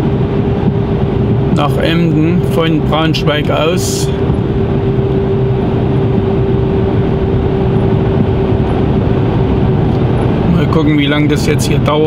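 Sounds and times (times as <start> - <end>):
steady held tone: 0.0 - 12.0
truck engine and road rumble: 0.0 - 12.0.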